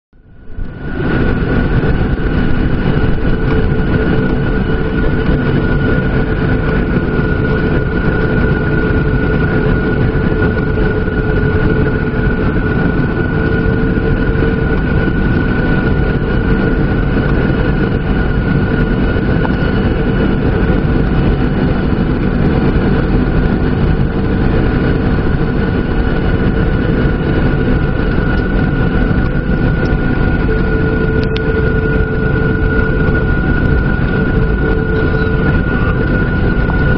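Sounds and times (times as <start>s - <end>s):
jet engines roaring in cabin: 0.2s - 36.9s.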